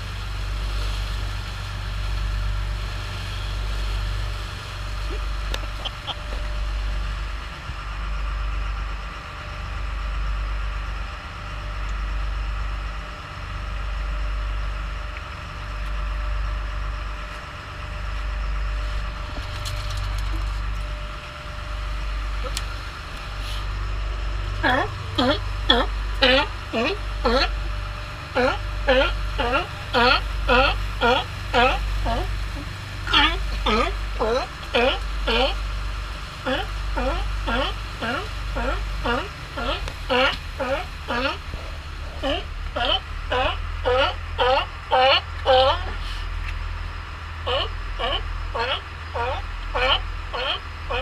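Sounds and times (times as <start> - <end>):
motorboat engine hum: 0.0 - 51.0
rushing wake water: 0.0 - 51.0.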